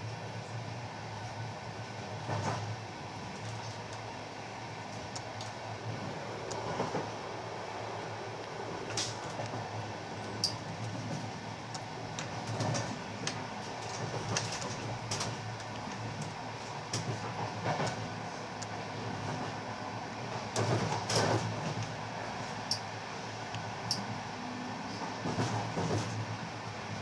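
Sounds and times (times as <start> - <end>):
wheels rumbling on rails: 2.1 - 27.0.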